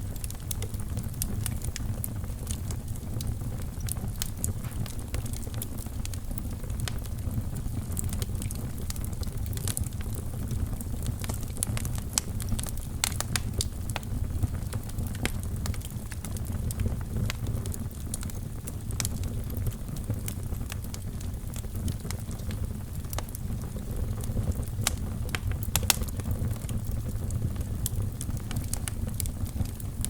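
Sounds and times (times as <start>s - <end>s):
low rumble of flames: 0.0s - 30.0s
wood fire crackling and popping: 0.0s - 30.0s.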